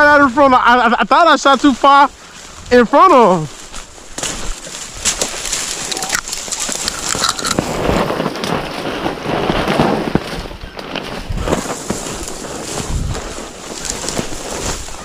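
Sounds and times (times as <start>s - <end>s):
dry grass rustling and crackling: 0.0s - 15.0s
wind buffeting microphone: 0.0s - 15.0s.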